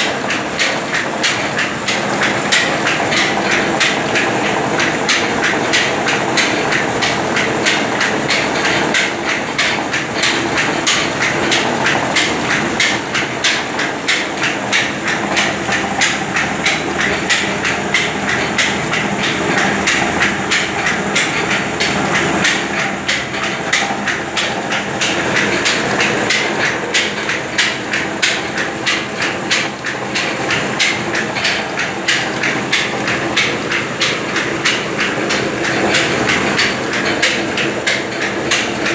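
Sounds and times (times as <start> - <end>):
flour mill clattering: 0.0 - 38.9.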